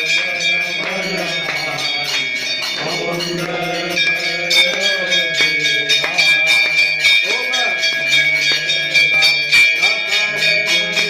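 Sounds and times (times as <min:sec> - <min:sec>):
people singing: 0:00.0 - 0:11.0
temple bells ringing: 0:00.0 - 0:11.0.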